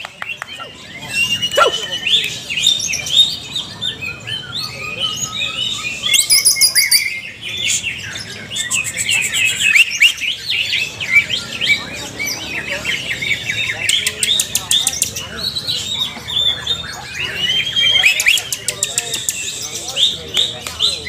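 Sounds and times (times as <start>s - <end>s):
birds singing in chorus: 0.0s - 21.0s.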